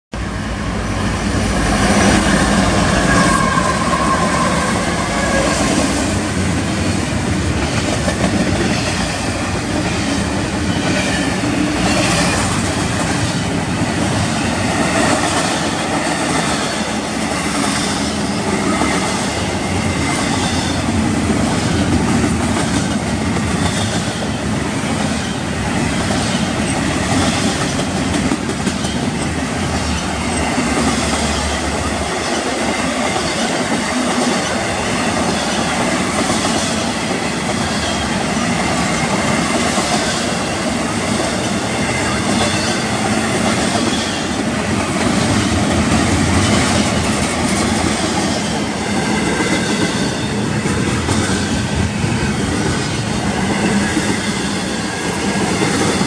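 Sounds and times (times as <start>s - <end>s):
diesel locomotives passing: 0.1s - 56.0s.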